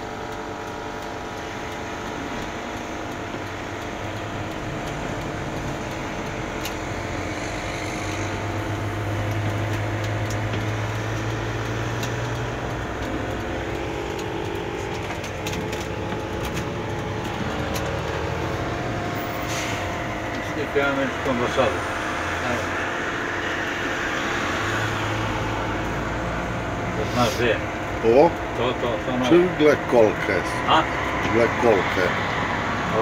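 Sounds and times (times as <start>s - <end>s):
low engine hum: 0.0s - 33.0s
road noise inside vehicle: 0.0s - 33.0s.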